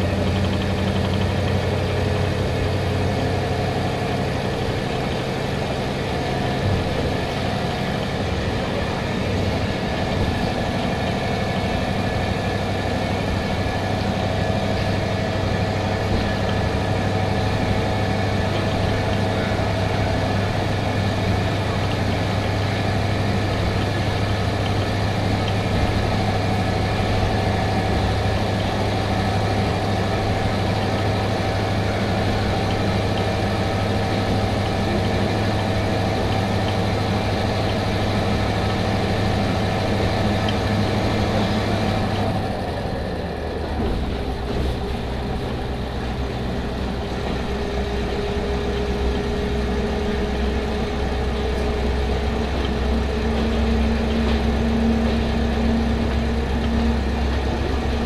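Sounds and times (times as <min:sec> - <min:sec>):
diesel engine humming: 0:00.0 - 0:58.0
railcar rumbling on rails: 0:00.0 - 0:58.0.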